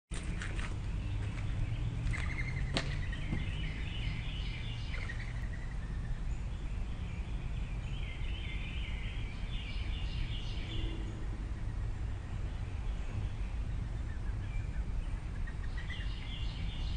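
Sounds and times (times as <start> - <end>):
birds chirping: 0.1 - 16.9
low background rumble: 0.1 - 16.9.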